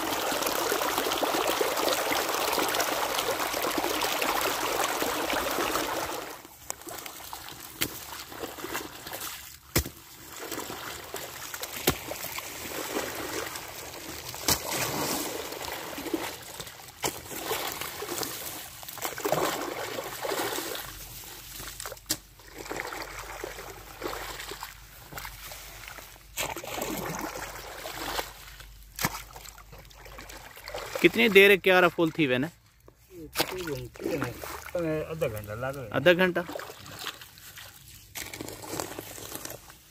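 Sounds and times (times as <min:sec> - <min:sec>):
water rushing across a field: 0:00.0 - 0:32.4, 0:33.4 - 0:39.8
water flowing in a channel: 0:00.0 - 0:39.9
hoe splashing in wet mud: 0:00.1 - 0:31.1, 0:33.3 - 0:34.8, 0:36.4 - 0:39.9.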